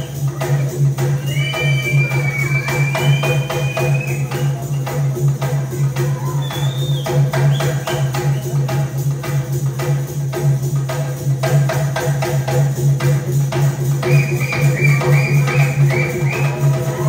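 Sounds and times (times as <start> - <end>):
jingling percussion beat: 0.0 - 17.0.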